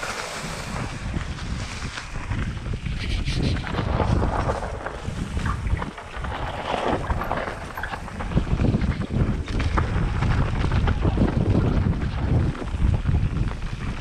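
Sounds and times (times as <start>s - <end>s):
mountain bike rattling on dirt trail: 0.0s - 14.0s
wind buffeting microphone: 0.0s - 14.0s.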